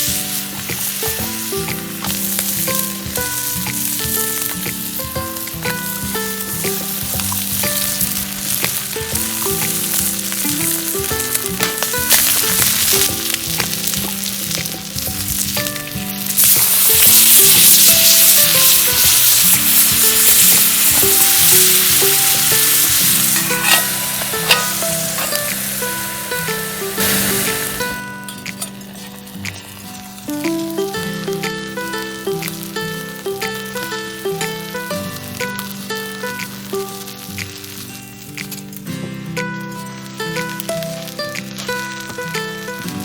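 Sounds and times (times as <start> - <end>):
background music: 0.0 - 43.0
food sizzling in a frying pan: 0.0 - 43.0.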